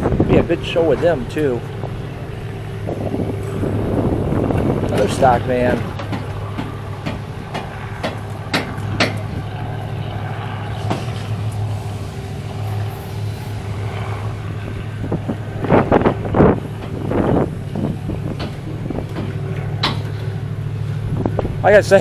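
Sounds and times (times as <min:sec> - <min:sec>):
engine hum: 0:00.0 - 0:22.0.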